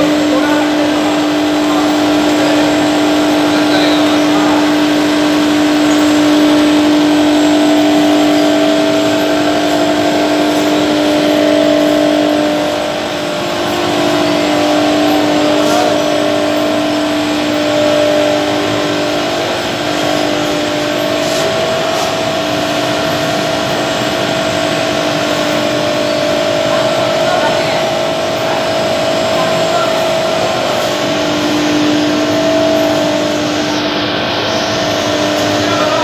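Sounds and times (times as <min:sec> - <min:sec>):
burner hum: 0:00.0 - 0:36.0
rotary drum machine drone: 0:00.0 - 0:36.0.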